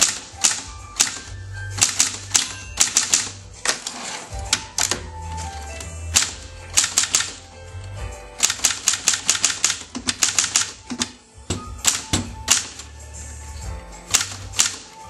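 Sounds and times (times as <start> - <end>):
typewriter keystrokes: 0.0 - 7.4, 8.4 - 11.2, 11.8 - 12.9, 14.1 - 15.0.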